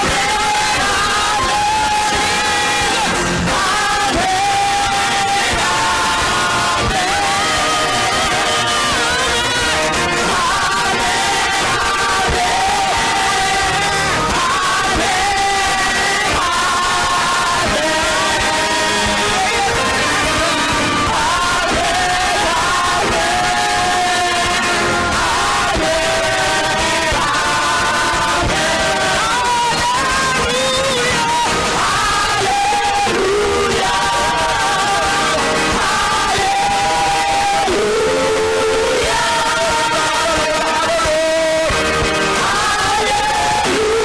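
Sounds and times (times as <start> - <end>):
gospel choir singing: 0.0 - 44.0
instrumental backing with steady beat: 0.0 - 44.0
music: 0.0 - 44.0.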